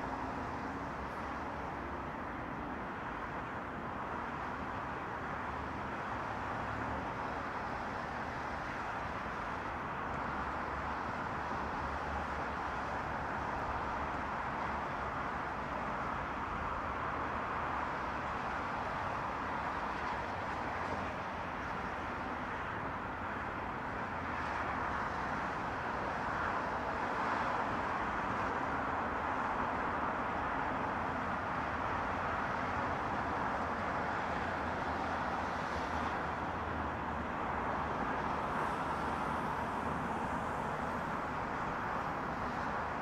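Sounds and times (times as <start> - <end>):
distant highway traffic: 0.0 - 43.0.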